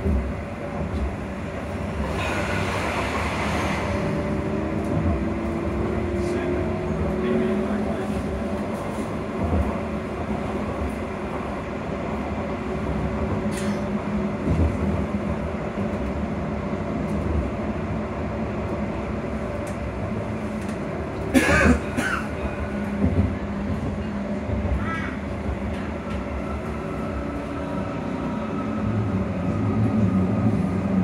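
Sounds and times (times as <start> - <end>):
bus body rumble and rattles: 0.0 - 31.0.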